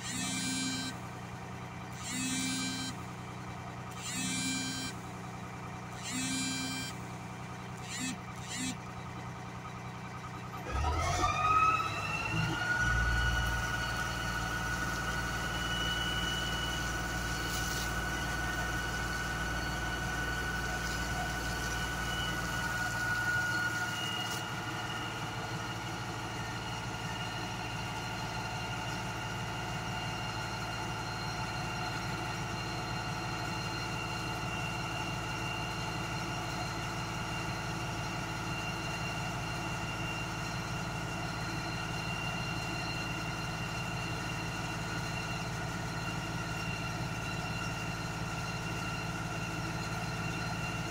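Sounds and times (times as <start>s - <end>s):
engine and pump whining: 0.0s - 50.9s.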